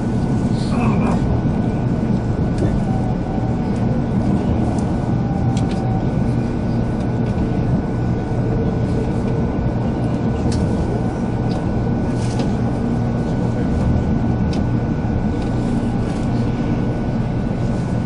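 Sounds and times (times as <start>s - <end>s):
train rumble inside cabin: 0.0s - 18.0s.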